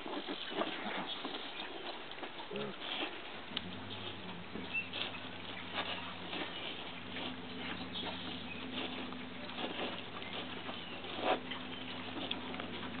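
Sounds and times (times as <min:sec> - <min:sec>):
piglets rustling in straw: 0:00.0 - 0:13.0.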